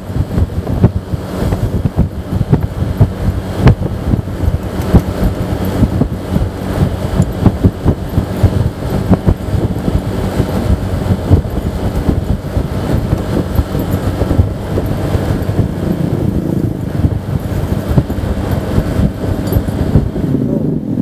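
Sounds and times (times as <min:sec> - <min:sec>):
scooter engine running: 0:00.0 - 0:21.0
wind buffeting microphone: 0:00.0 - 0:21.0.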